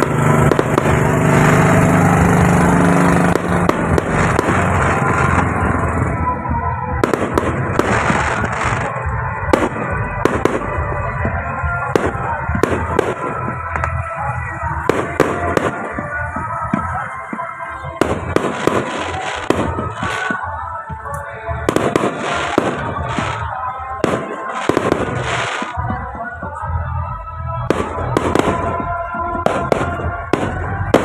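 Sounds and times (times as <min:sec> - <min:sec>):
fireworks bangs and crackles: 0:00.0 - 0:26.9, 0:27.6 - 0:31.0.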